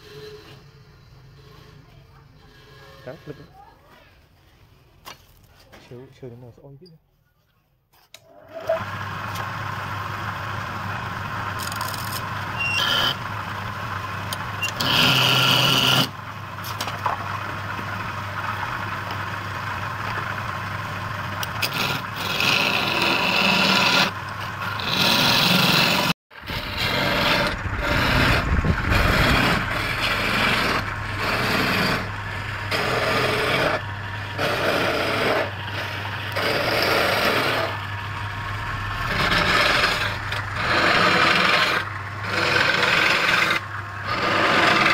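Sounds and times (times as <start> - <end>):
tool scraping turning wood: 0.0 - 4.0, 11.5 - 13.3, 13.9 - 44.9
wood lathe humming: 8.6 - 44.9.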